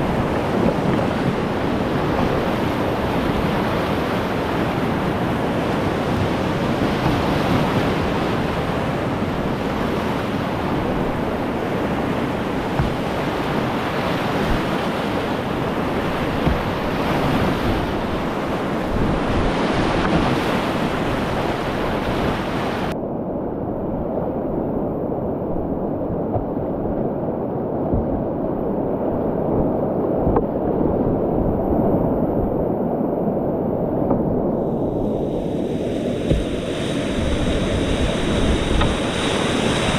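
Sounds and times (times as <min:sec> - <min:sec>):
whitewater roaring: 0:00.0 - 0:23.0, 0:24.3 - 0:39.9.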